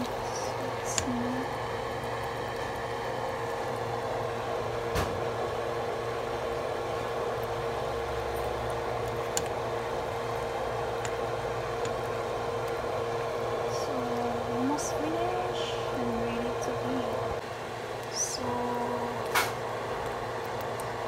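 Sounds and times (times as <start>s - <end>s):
kitchen fan whirring: 0.0s - 21.0s.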